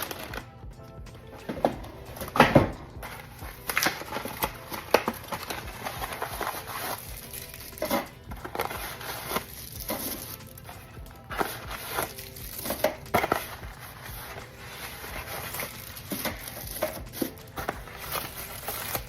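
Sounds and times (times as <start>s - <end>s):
plastic wrappers crinkling: 3.0s - 19.0s.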